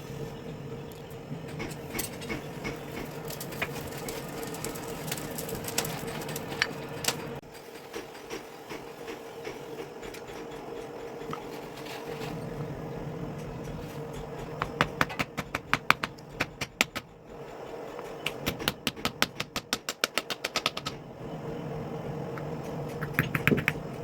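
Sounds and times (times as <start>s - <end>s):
workshop machine humming: 0.0s - 24.0s.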